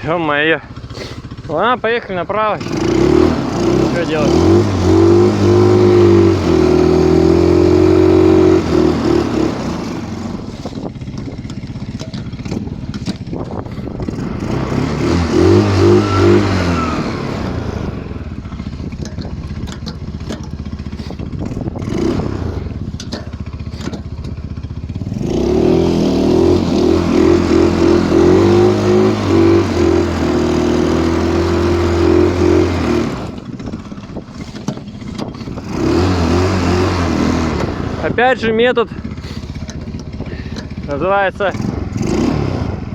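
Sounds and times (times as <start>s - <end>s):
snowmobile engine revving: 0.0s - 42.9s.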